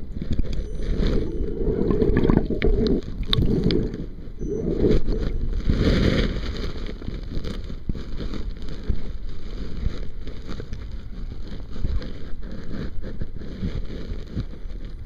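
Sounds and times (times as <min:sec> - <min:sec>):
muffled water rushing and sloshing: 0:00.0 - 0:15.0.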